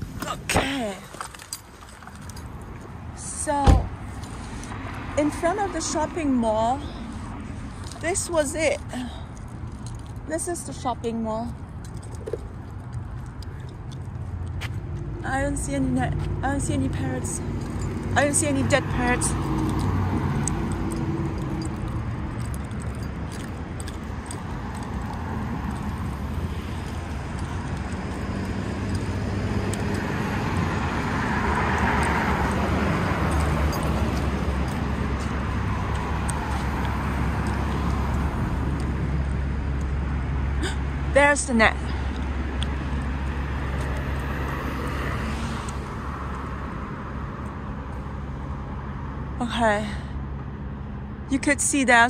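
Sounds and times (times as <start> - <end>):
cars passing on street: 0.0 - 52.0.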